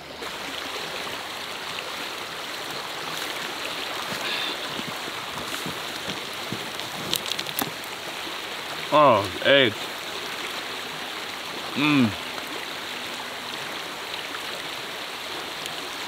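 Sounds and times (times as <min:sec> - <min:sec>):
river rushing over gravel: 0:00.2 - 0:16.0.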